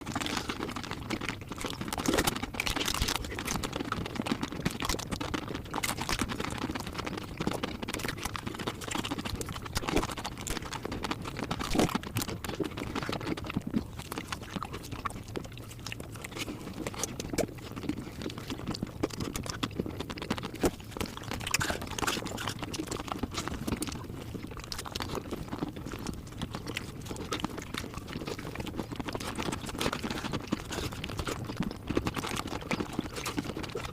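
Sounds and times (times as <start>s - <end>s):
sped-up chewing and crunching: 0.0s - 33.9s
wet mouth clicks: 0.1s - 33.9s.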